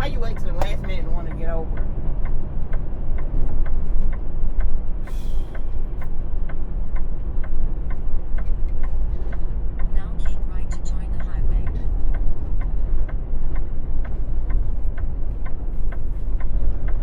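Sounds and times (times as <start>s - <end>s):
truck engine droning: 0.0s - 17.0s
turn signal clicking: 0.0s - 17.0s.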